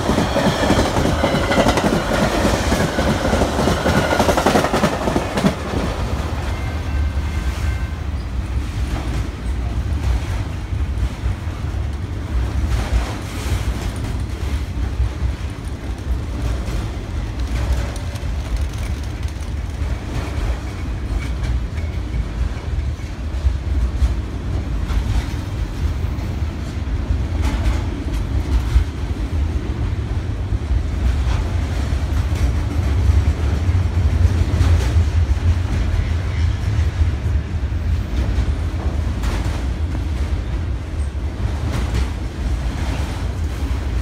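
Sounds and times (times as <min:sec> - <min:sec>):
freight train rumble: 0:00.0 - 0:44.0.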